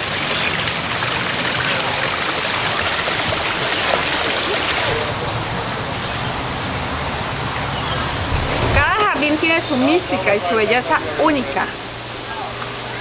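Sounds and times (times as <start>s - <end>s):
running splashing water: 0.0s - 13.0s.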